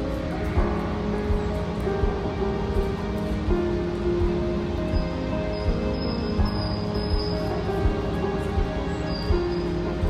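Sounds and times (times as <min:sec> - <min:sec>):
low beat: 0:00.0 - 0:10.0
sustained background music notes: 0:00.0 - 0:10.0.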